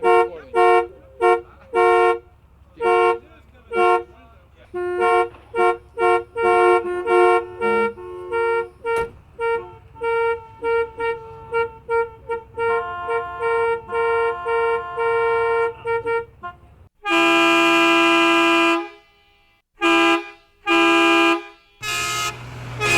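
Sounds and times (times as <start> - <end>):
long vehicle horn blast: 0.0 - 22.9
vehicle horn toots: 0.0 - 22.9.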